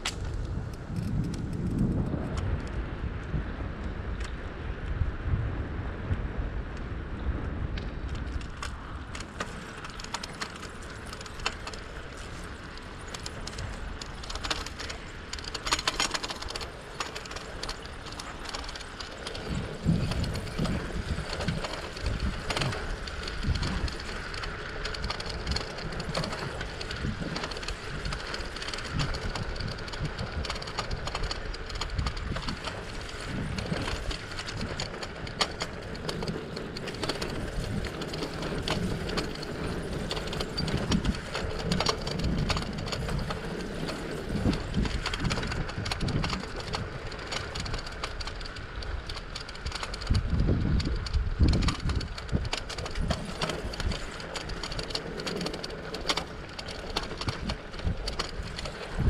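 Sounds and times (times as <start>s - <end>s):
bike clicks and rattles: 0.0s - 5.4s, 6.0s - 59.0s
bicycle tyre noise: 0.0s - 59.0s
low wind rumble: 0.0s - 59.0s.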